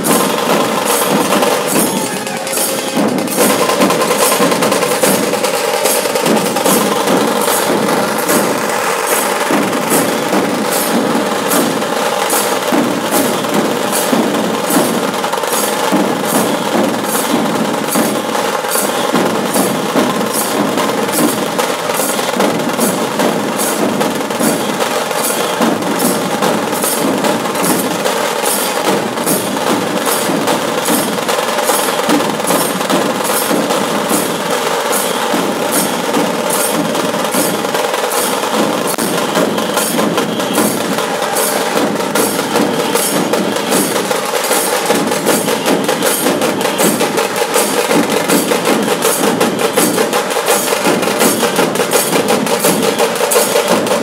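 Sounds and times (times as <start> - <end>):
large barrel drums beaten: 0.0 - 54.0
tasha drums clattering: 0.0 - 54.0.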